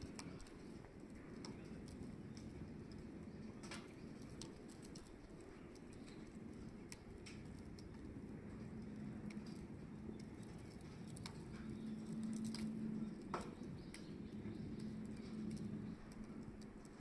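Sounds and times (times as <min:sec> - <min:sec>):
faint steady hum: 0:00.0 - 0:17.0
wood fire popping and snapping: 0:00.0 - 0:17.0.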